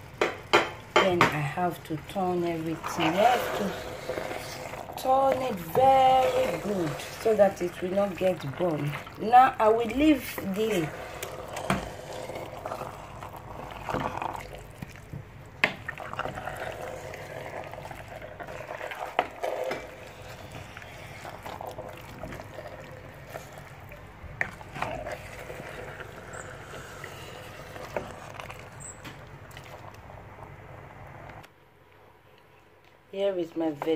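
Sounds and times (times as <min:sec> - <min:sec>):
soup bubbling: 0:00.0 - 0:31.5.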